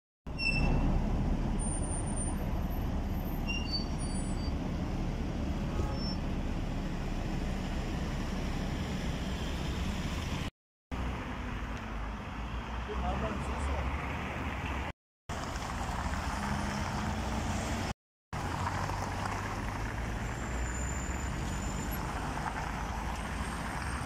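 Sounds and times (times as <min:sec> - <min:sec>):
road traffic noise: 0:00.3 - 0:24.0
bus engine passing: 0:00.5 - 0:24.0.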